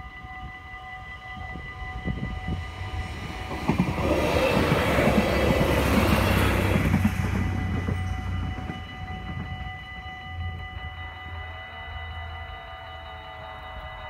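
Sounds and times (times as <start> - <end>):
crossing warning bells: 0.0 - 14.0
railcar rumble and wheel clatter: 0.0 - 14.0.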